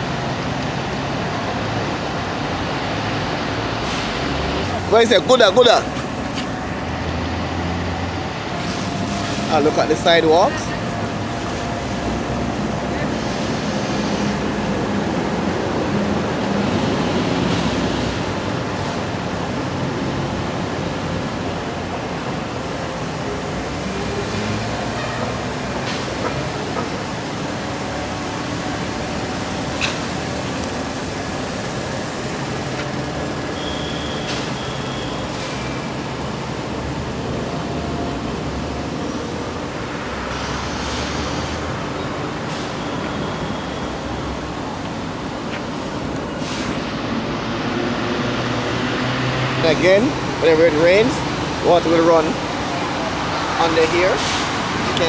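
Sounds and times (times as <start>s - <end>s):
road traffic rushing: 0.0s - 55.0s.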